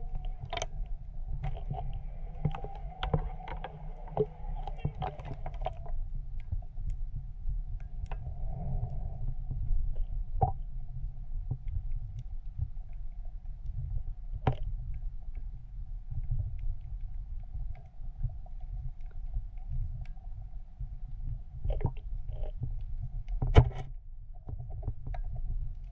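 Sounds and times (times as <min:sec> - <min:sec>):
faint steady hum: 0:00.0 - 0:25.9
underwater low rumble: 0:00.0 - 0:25.9.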